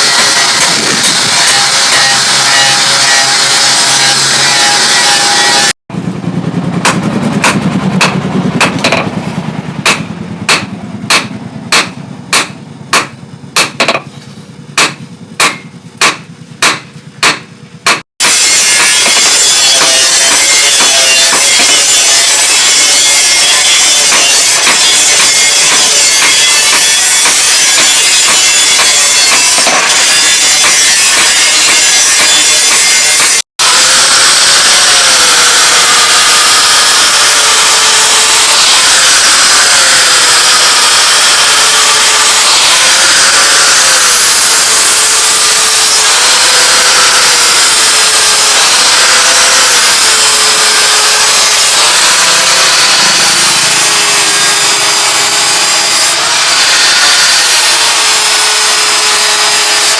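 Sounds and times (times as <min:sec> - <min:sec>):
hammer striking steel: 0:00.0 - 0:06.0, 0:06.6 - 0:57.6
harsh grinding noise: 0:00.0 - 0:59.9.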